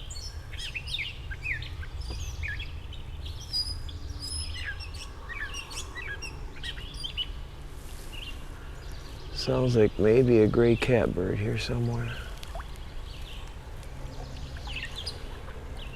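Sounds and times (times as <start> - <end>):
low steady rumble: 0.0 - 15.9.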